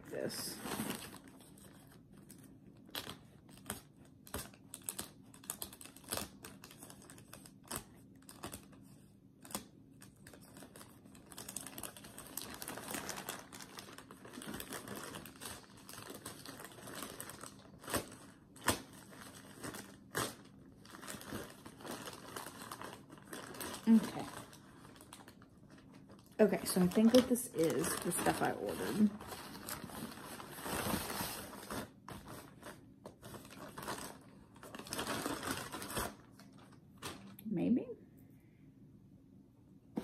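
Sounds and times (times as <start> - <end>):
plastic mailer bag tearing: 2.9 - 8.7, 10.2 - 37.3.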